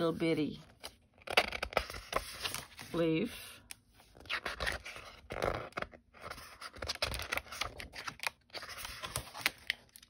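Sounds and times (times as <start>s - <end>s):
paper rustling: 0.8s - 3.2s, 4.1s - 10.0s.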